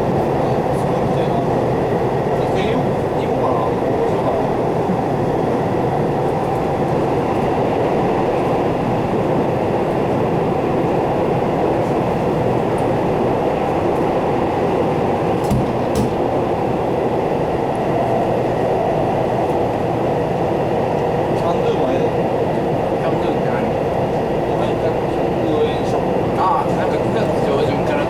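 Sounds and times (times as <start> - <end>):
train wheels and motors rumbling: 0.0 - 28.0.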